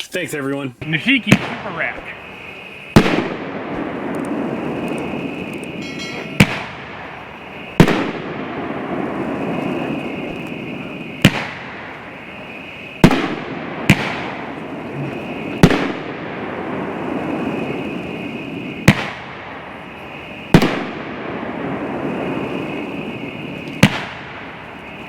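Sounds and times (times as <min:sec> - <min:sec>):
steady hiss: 0:00.0 - 0:25.0
firework booms with echo: 0:00.9 - 0:25.0.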